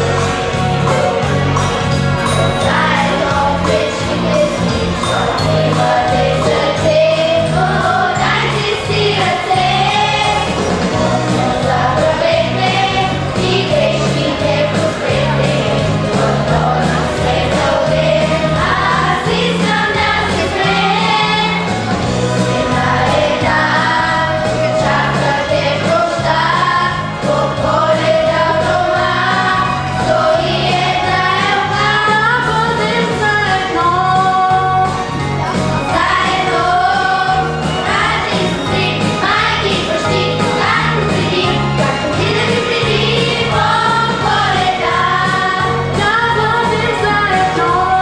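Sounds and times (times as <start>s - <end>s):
instrumental accompaniment with bass: 0.0s - 48.0s
girls' choir singing: 2.4s - 35.1s, 35.7s - 48.0s.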